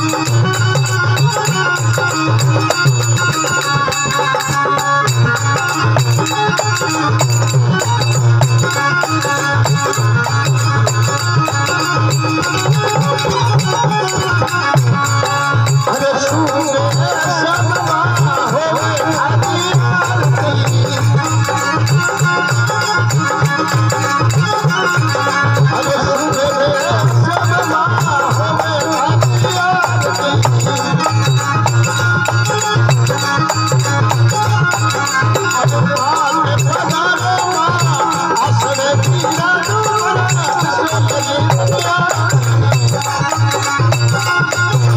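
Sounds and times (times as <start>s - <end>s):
rattling percussion: 0.0s - 44.9s
steady drum beat: 0.0s - 44.9s.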